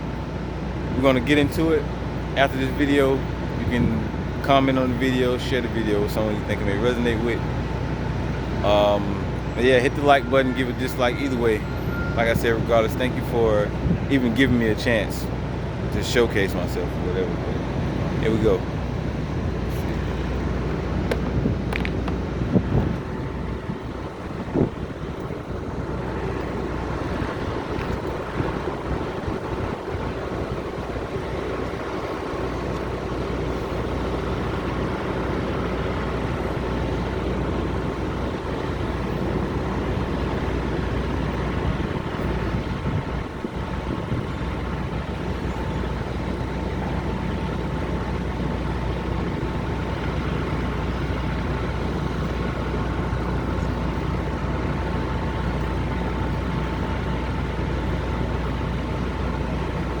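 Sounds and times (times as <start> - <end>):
diesel trucks idling: 0.0 - 60.0
thin constant whine: 0.0 - 60.0.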